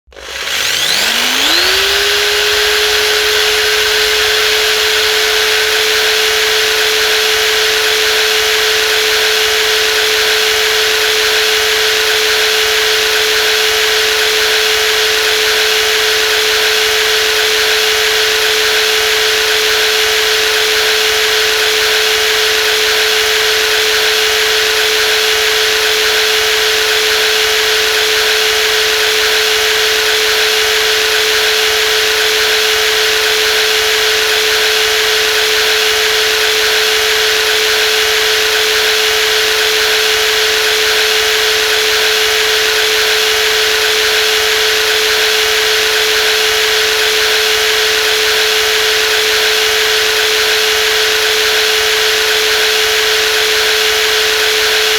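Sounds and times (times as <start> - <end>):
jigsaw motor whining: 0.0 - 54.9.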